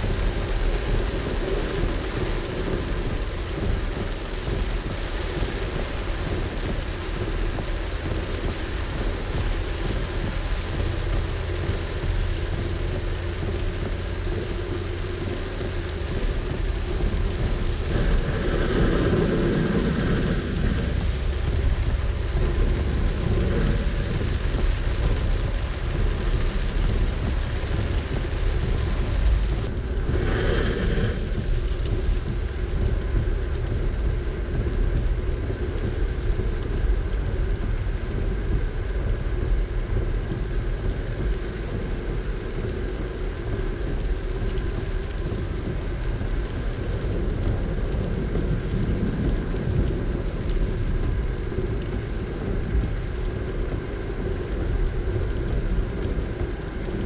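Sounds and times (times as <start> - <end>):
rain hissing on a car: 0.0 - 57.0
road and tyre rumble: 0.0 - 57.0.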